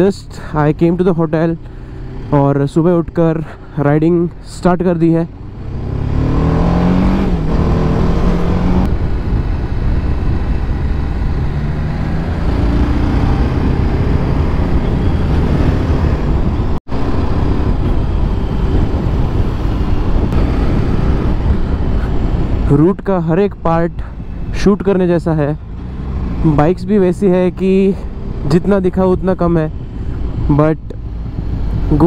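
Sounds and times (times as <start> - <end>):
tire and wind noise while riding: 0.0 - 32.0.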